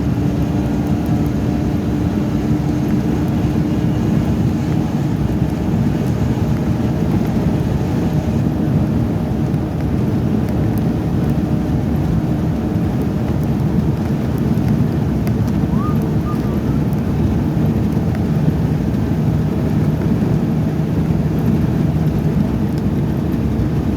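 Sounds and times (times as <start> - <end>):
heavy engines and traffic rumble: 0.0 - 23.9.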